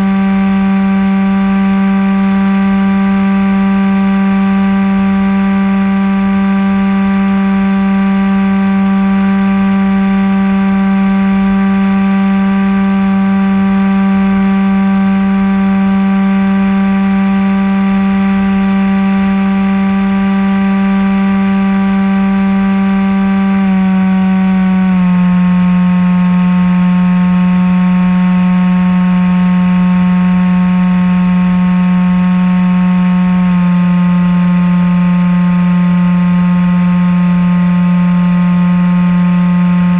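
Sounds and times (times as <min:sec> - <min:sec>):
model aircraft motor humming: 0:00.0 - 0:34.4.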